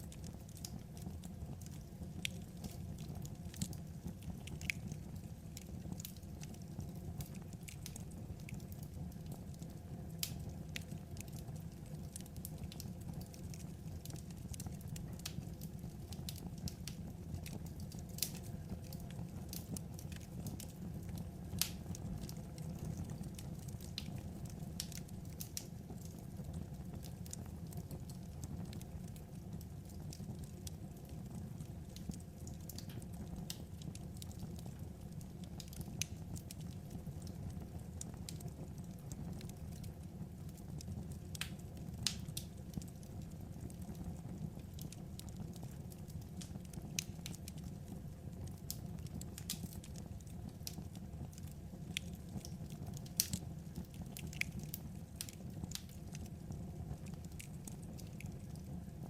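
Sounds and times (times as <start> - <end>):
firewood crackling and popping: 0.0 - 59.0
low rumble of fire: 0.0 - 59.0.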